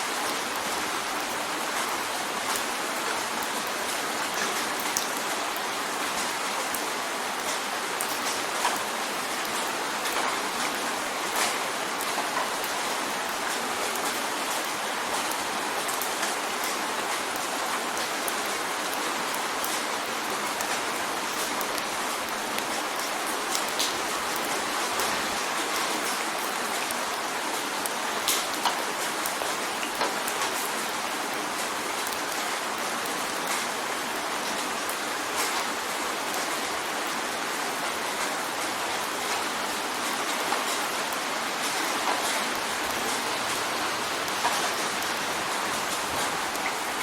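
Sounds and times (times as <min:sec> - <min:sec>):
rain drumming on a window: 0:00.0 - 0:47.0.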